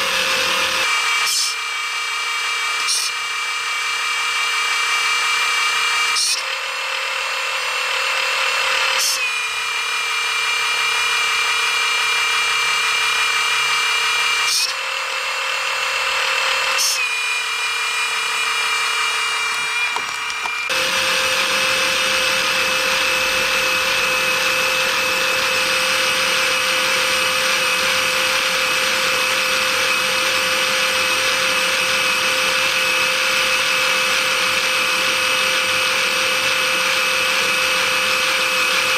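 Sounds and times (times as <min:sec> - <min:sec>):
small electric motor whining: 0:00.0 - 0:38.9.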